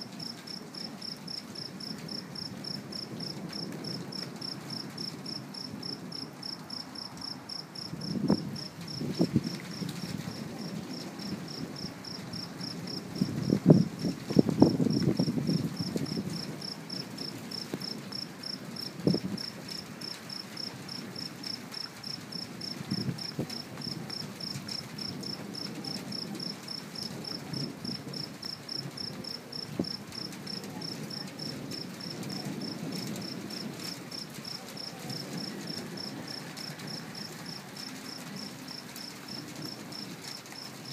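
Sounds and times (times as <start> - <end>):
crickets chirping: 0.0 - 40.9
thunder rumbling: 0.0 - 40.9.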